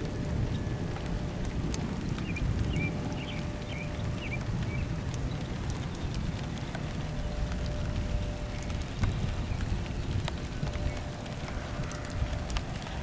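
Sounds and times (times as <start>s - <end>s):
dripping water drops: 0.0s - 13.0s
wind noise on microphone: 0.0s - 13.0s.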